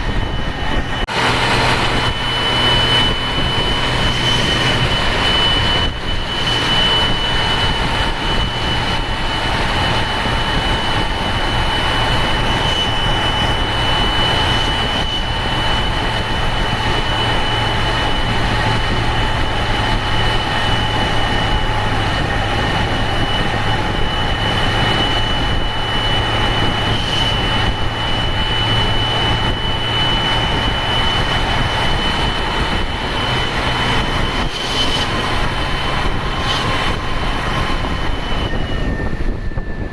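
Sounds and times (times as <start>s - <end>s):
diesel bus engine drone: 0.0s - 39.9s
turbocharger whistle: 0.0s - 39.9s.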